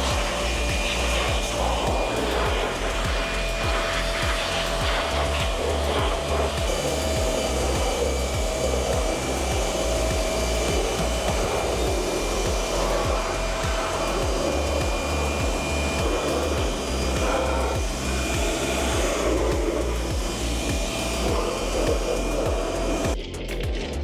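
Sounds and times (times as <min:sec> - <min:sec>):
rushing hiss of air: 0:00.0 - 0:23.2
music with bass beat: 0:00.0 - 0:24.0.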